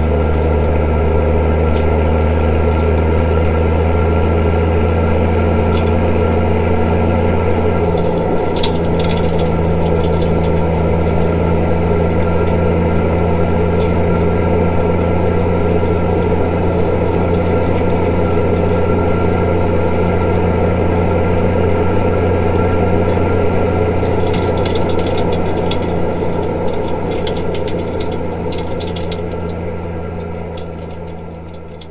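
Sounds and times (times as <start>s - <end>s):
diesel engine droning: 0.0s - 31.9s.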